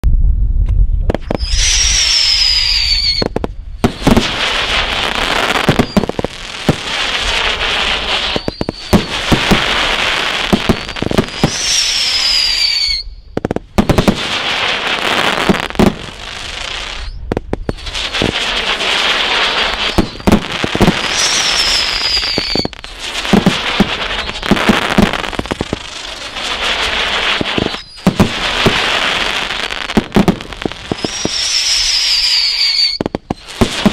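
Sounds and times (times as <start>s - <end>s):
fireworks reports and booms: 0.0s - 33.9s
dense fireworks crackling: 0.6s - 33.9s
falling firework whistle: 1.2s - 33.9s.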